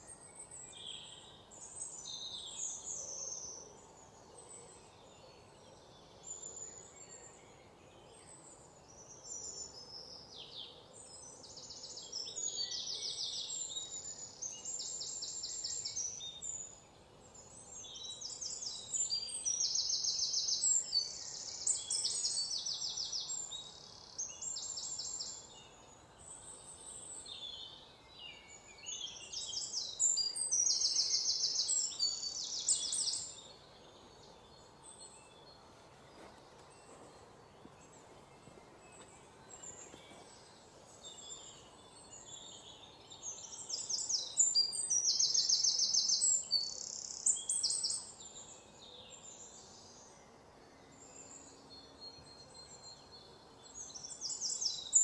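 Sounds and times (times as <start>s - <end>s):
faint background hiss: 0.0s - 55.0s
songbirds chirping in trills: 0.0s - 55.0s.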